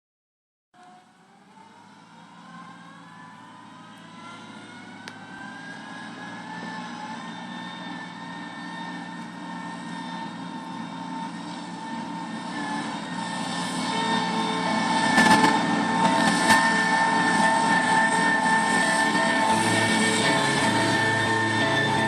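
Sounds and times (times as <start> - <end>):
combine harvester machinery whine: 0.8 - 22.0.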